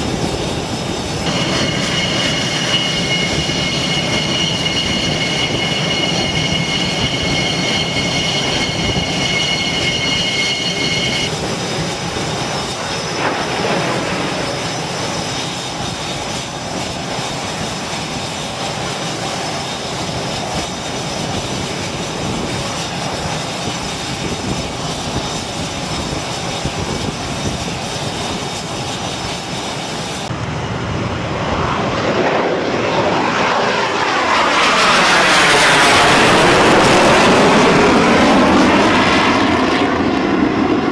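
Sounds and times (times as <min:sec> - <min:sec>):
jet engine noise: 0:00.0 - 0:40.9
jet passing overhead: 0:00.0 - 0:40.9
jet turbine whine: 0:00.0 - 0:40.9.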